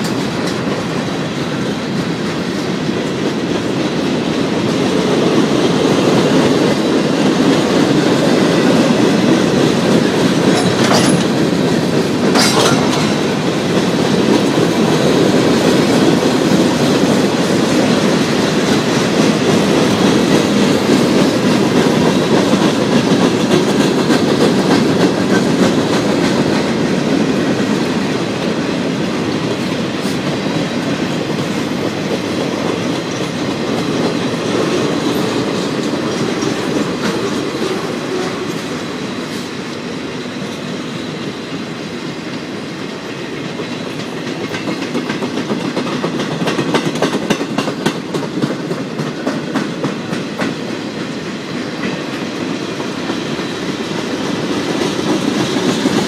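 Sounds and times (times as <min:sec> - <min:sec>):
clickety-clack over rail joints: 0:00.0 - 0:56.0
freight train wheels rumbling on rail: 0:00.0 - 0:56.0.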